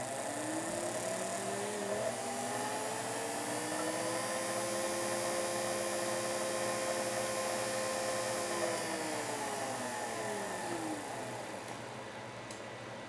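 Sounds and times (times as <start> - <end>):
small electric motor whine: 0.0 - 11.9.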